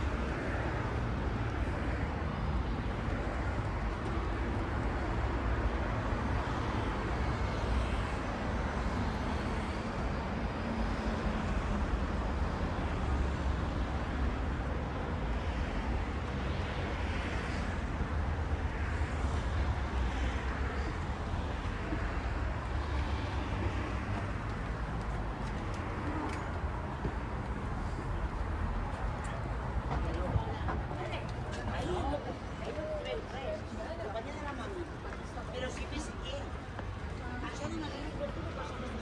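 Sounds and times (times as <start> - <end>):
distant road traffic rumble: 0.0 - 39.0.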